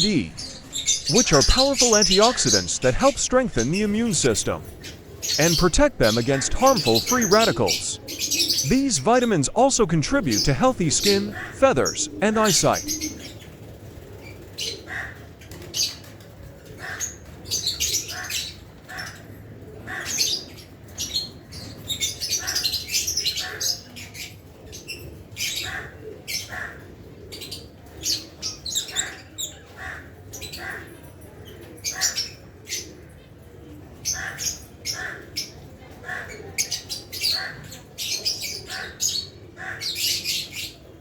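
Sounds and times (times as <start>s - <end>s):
lovebirds chirping and squawking: 0.0s - 41.0s.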